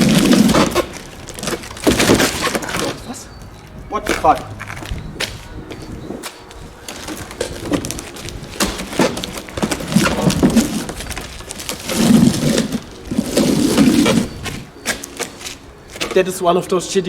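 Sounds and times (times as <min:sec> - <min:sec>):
wooden pallet knocking and scraping: 0:00.0 - 0:03.1, 0:04.1 - 0:16.4.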